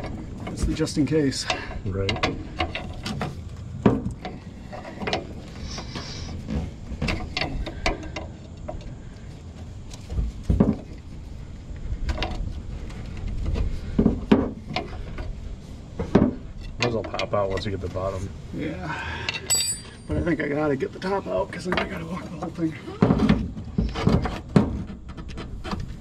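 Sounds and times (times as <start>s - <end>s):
pry bar scraping and clunking metal: 0.0s - 11.2s, 11.8s - 18.3s, 19.1s - 26.0s.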